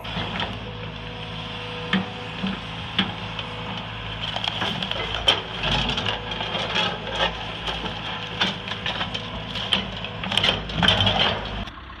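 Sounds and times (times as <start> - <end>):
excavator bucket scraping rubble: 0.0 - 11.7
excavator engine running: 0.0 - 12.0.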